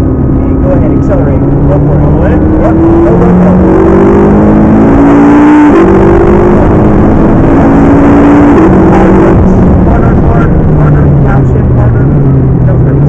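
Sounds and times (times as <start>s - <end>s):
car engine accelerating with upshifts: 0.0s - 13.0s.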